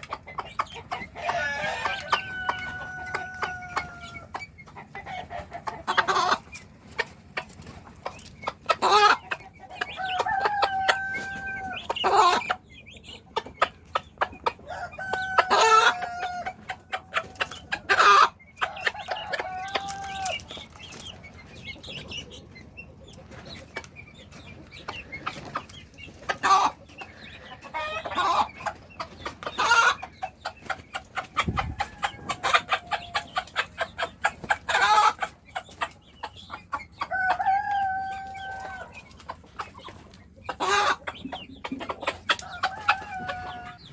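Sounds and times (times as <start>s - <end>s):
hen clucking: 0.0s - 43.9s.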